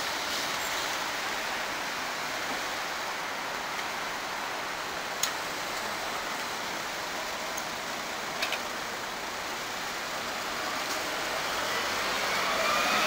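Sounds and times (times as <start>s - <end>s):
diesel bus passing slowly: 0.0s - 13.0s
road traffic rushing: 0.0s - 13.0s.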